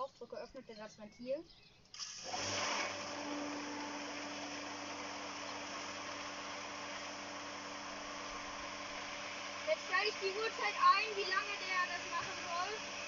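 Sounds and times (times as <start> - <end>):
garden pump motor hum: 1.9 - 13.0
water rushing hiss: 2.0 - 13.0.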